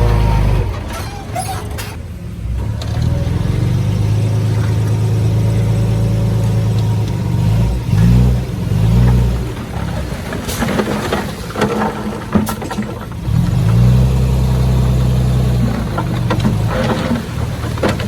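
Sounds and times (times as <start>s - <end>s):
heavy machinery diesel engine: 0.0s - 18.0s.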